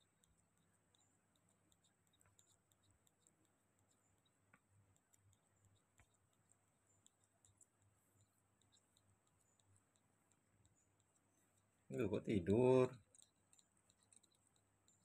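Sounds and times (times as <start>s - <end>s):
soft sucking clicks: 0.0s - 11.9s, 13.0s - 15.0s.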